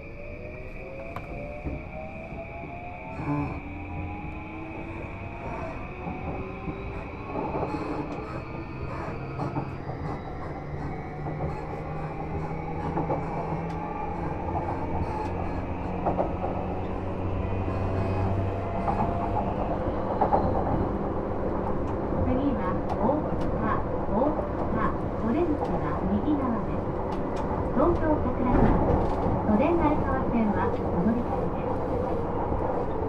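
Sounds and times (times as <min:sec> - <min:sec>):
train running rumble: 0:00.6 - 0:33.0.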